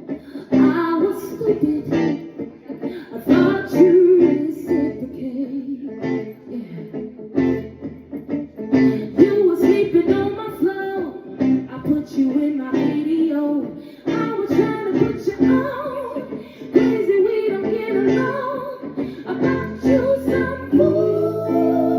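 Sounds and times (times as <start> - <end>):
person singing: 0.0 - 7.8, 8.7 - 21.9
guitar: 0.0 - 21.9.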